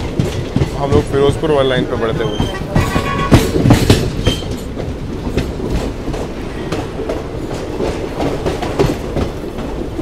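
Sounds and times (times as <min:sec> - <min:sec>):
train rumbling along track: 0:00.0 - 0:10.0
wheels clacking over rail joints: 0:00.0 - 0:10.0.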